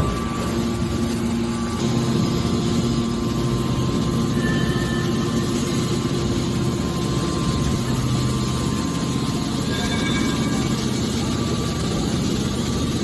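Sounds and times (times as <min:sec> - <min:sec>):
machine drone: 0:00.0 - 0:13.0.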